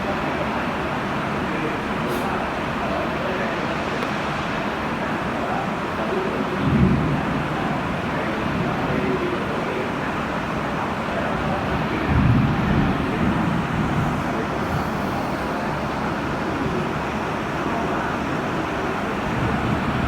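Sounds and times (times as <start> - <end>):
road traffic noise: 0.0 - 6.6, 7.4 - 20.0.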